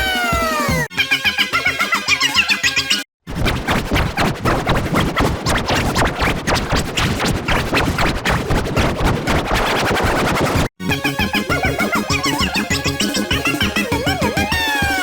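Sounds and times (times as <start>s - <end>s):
distorted glitchy cartoon music: 1.5s - 15.0s.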